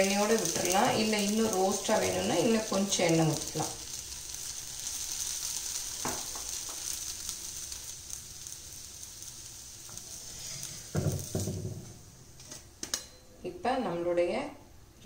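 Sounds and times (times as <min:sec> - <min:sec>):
oil sizzling on a hot griddle: 0:00.0 - 0:13.0.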